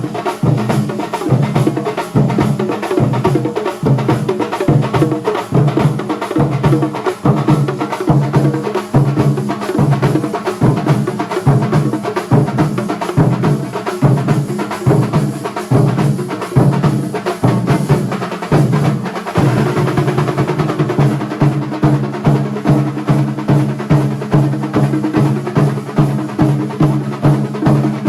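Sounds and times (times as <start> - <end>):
fast percussion ensemble drumming: 0.0 - 28.0.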